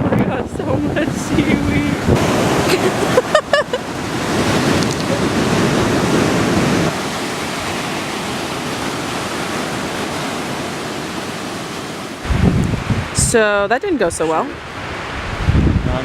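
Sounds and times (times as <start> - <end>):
ocean surf: 0.0 - 16.0
strong wind rushing: 0.0 - 16.0
wind buffeting the microphone: 0.0 - 16.0.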